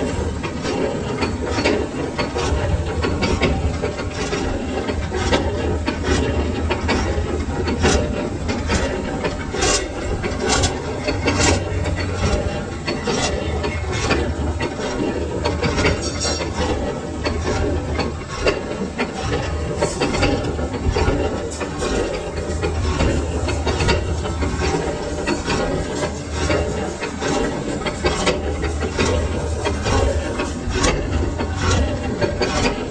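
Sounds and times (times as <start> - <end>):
metal lathe humming: 0.0 - 32.9.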